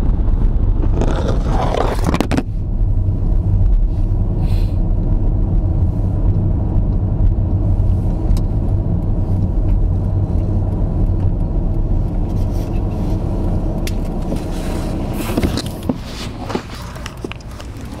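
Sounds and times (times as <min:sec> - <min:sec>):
moving vehicle rumble: 0:00.0 - 0:18.0.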